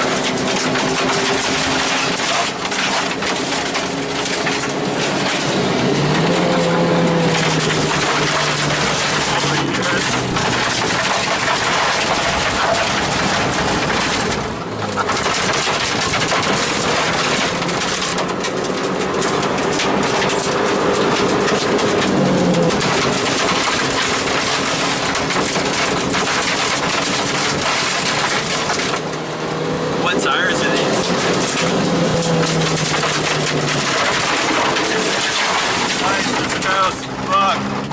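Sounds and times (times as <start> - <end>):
car interior rattling: 0.0 - 37.9
rally car engine revving: 0.0 - 37.9
tyre and road noise: 0.0 - 37.9.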